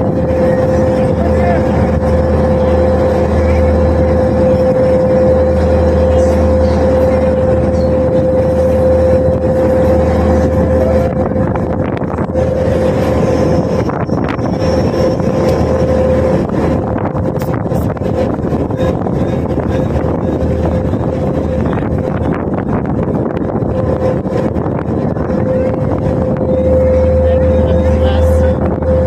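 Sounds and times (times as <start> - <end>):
boat engine droning: 0.0 - 29.0
water wash from wake: 0.0 - 29.0.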